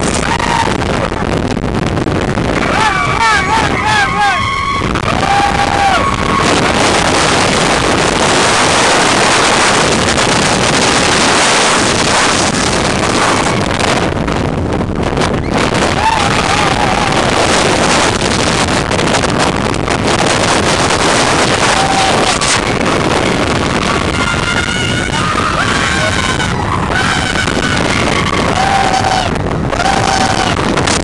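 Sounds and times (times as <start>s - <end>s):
roller coaster running noise: 0.0s - 31.0s
wind rushing over microphone: 0.0s - 31.0s.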